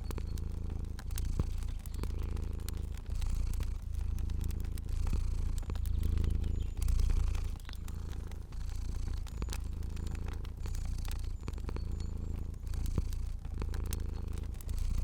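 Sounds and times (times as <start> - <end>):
cat purring: 0.0 - 15.0
wood fire popping and crackling: 0.0 - 15.0.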